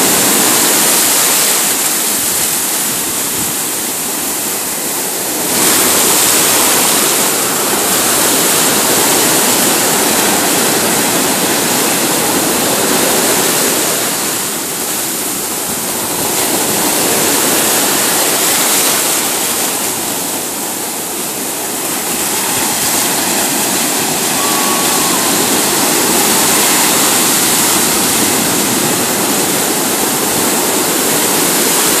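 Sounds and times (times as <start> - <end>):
ocean waves breaking: 0.0 - 32.0.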